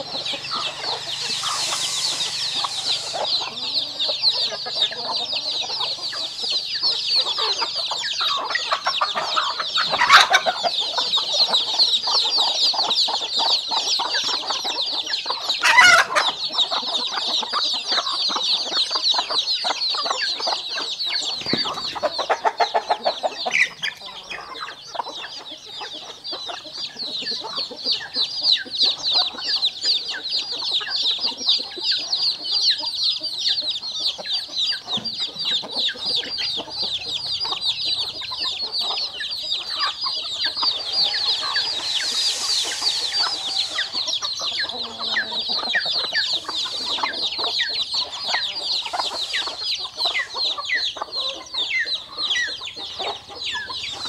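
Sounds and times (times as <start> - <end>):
loud chicken calls: 0.0 - 30.2, 32.3 - 54.0
chicks peeping: 0.0 - 54.0
hens clucking: 0.0 - 54.0.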